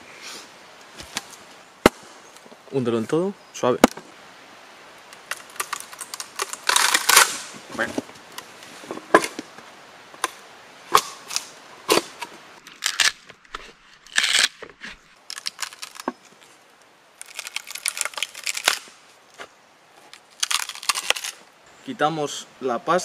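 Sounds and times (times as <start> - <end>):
wood crackling: 0.7 - 21.7.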